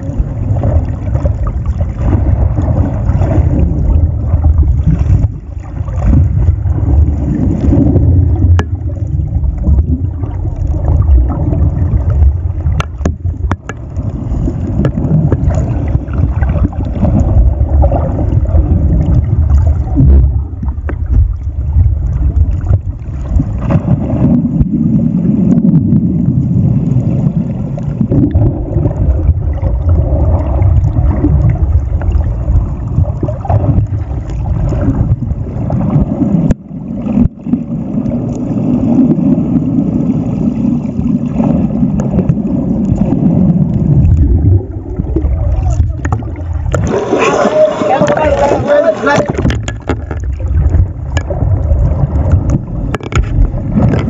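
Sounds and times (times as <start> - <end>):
muffled underwater churning rumble: 0.0 - 54.0.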